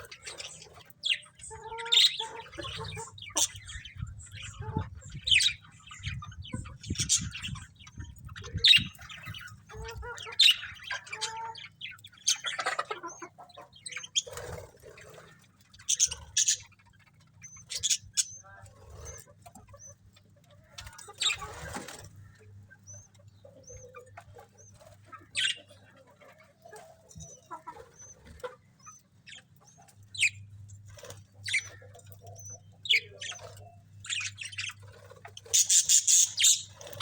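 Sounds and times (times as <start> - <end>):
budgerigars chirping: 0.0 - 37.0.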